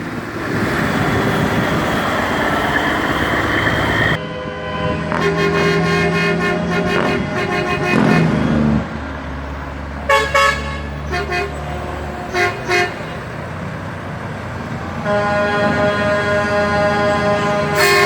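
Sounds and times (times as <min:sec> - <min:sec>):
low engine drone: 0:00.0 - 0:17.8
truck horns honking: 0:02.9 - 0:18.0.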